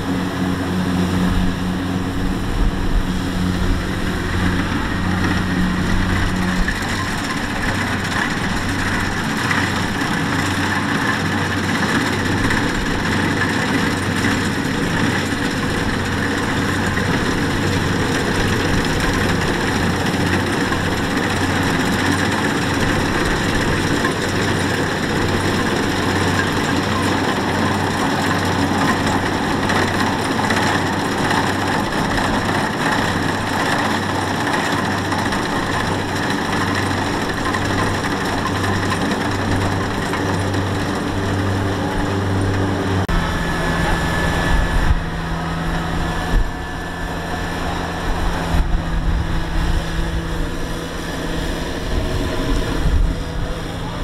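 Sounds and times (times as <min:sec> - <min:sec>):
harvester engine humming: 0:00.0 - 0:54.0.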